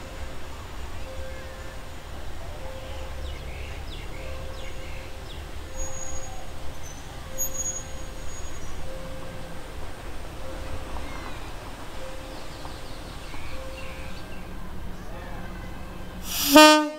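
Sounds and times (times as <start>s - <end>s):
diesel railcar rumbling: 0.0s - 16.9s.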